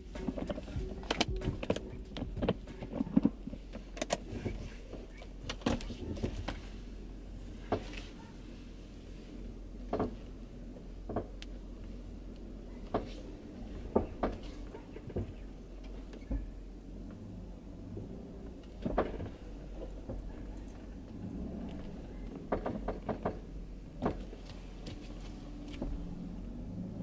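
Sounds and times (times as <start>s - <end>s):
suspension creaking and popping: 0.0s - 6.8s, 9.8s - 27.0s
low steady hum: 0.0s - 27.0s.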